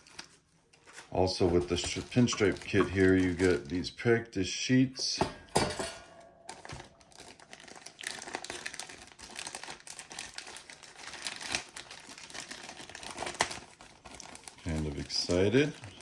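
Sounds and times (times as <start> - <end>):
packaging crinkling and rustling: 0.0 - 4.0, 6.4 - 16.0.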